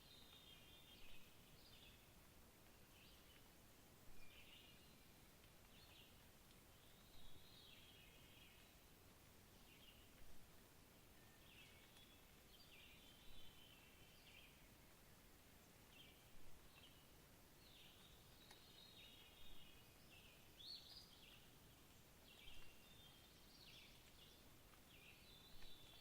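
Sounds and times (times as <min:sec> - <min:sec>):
low background hiss: 0:00.0 - 0:26.0.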